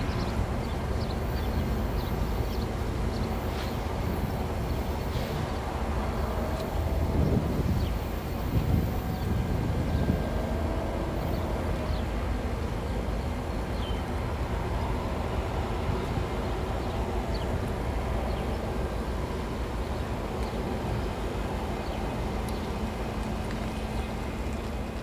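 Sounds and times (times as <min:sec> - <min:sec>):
diesel locomotives running: 0:00.0 - 0:25.0
wheels rumbling on rail: 0:00.0 - 0:25.0.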